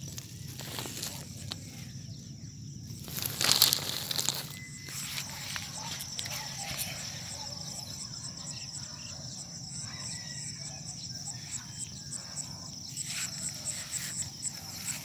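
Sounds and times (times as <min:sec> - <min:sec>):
high-pitched insect trill: 0:00.0 - 0:15.0
insect chirping: 0:00.0 - 0:15.0.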